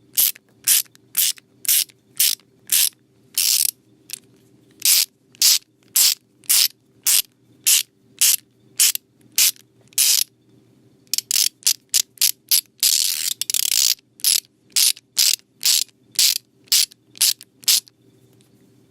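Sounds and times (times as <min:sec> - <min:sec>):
ratchet wrench clicking: 0:00.2 - 0:03.7, 0:04.8 - 0:10.3, 0:11.1 - 0:17.9.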